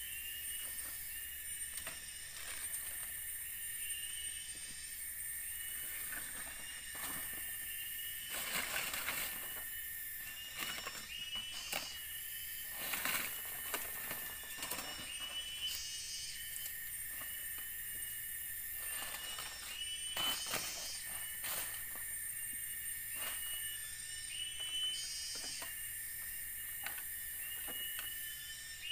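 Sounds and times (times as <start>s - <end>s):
dry leaves and sticks rustling: 0.0s - 28.9s
high-pitched insect drone: 0.0s - 28.9s.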